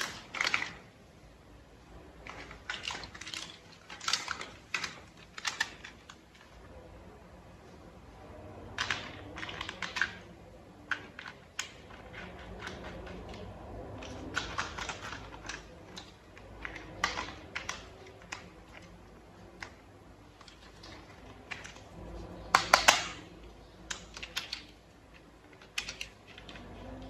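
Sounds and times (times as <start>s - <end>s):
plastic toy parts clicking: 0.0s - 1.0s, 1.8s - 6.9s, 8.3s - 27.0s.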